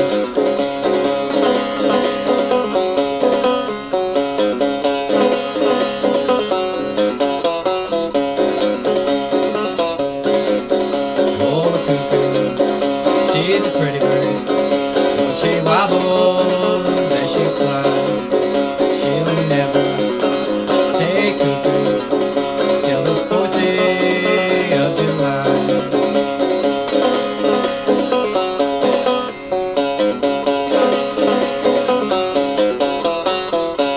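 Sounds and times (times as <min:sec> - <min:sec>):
banjo picked in quick rhythm: 0:00.0 - 0:33.9.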